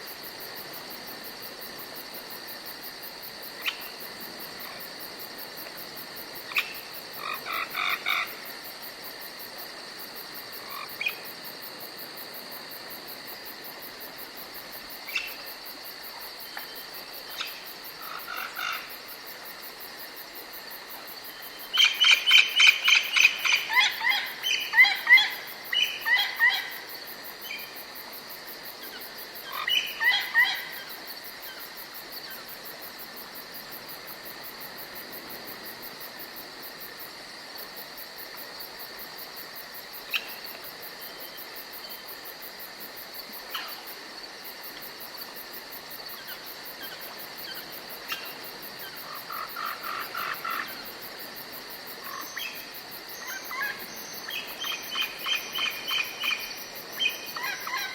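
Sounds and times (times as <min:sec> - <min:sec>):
high-pitched insect trill: 0:02.1 - 0:12.5, 0:13.1 - 0:34.1, 0:39.8 - 0:57.9.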